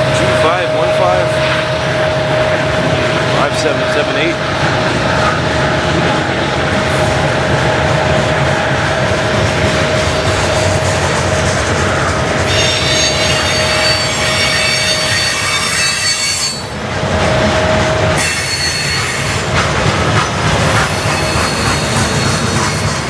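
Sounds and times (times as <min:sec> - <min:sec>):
freight train cars rolling: 0:00.0 - 0:23.0
squealing train wheels: 0:00.0 - 0:23.0.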